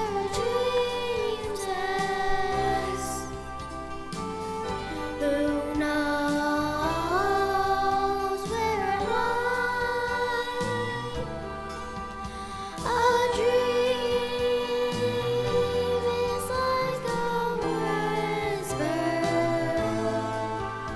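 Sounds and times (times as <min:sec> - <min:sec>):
instrumental accompaniment: 0:00.0 - 0:20.9
person singing long notes: 0:00.0 - 0:20.9.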